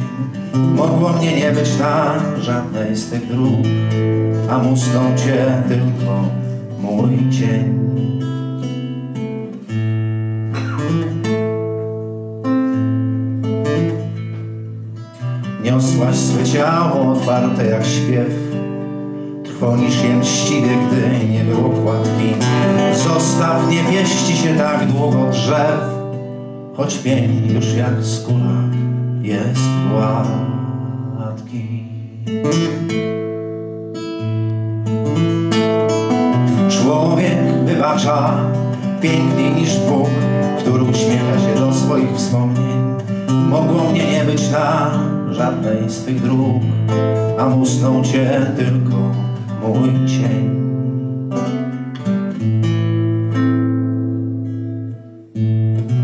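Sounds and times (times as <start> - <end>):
acoustic guitar strummed chords: 0.0 - 56.0.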